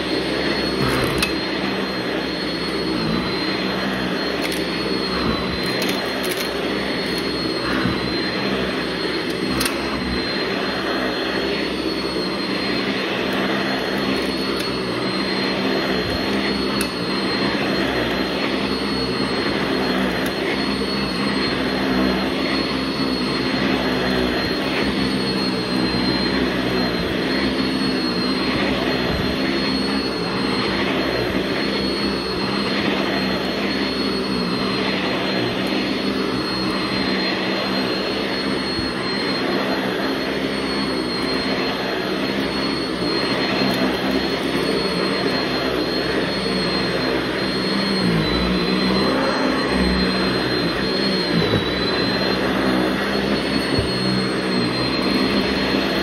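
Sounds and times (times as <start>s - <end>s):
upright vacuum running on carpet: 0.0s - 56.0s.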